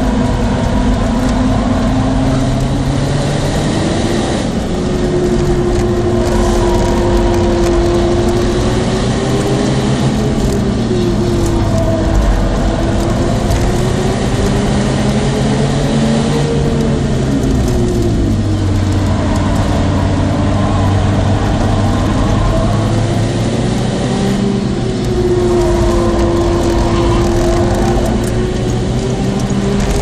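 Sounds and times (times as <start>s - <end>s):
car engine accelerating: 0.0s - 30.0s
road noise: 0.0s - 30.0s.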